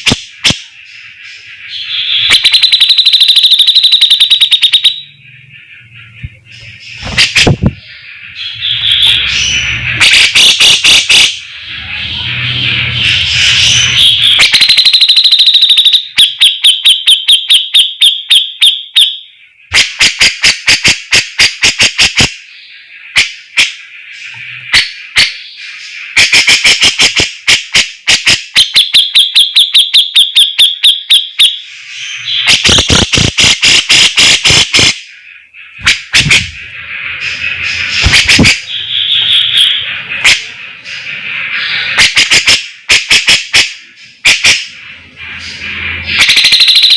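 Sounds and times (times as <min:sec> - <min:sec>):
bird singing rapid notes: 0:00.0 - 0:46.9.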